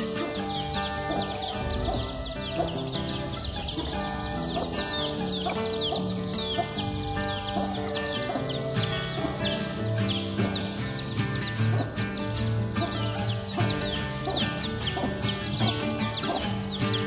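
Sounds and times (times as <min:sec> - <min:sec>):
background music with held notes: 0:00.0 - 0:17.0
chicks peeping: 0:00.0 - 0:17.0
hen clucking: 0:00.0 - 0:17.0.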